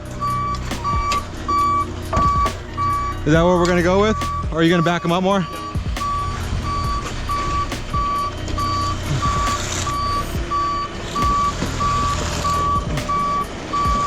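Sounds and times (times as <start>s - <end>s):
truck backup alarm beeping: 0.0s - 14.0s
truck engine running: 0.0s - 14.0s.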